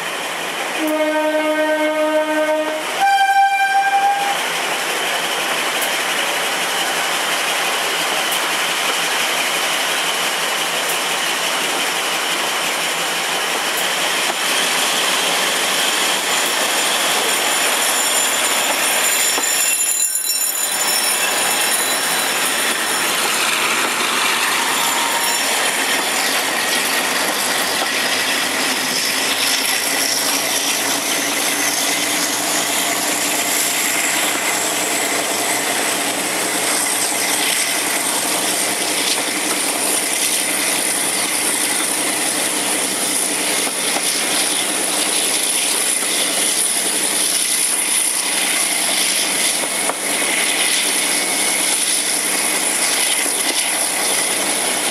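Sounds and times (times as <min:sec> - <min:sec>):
train wheel noise: 0:00.0 - 0:54.9.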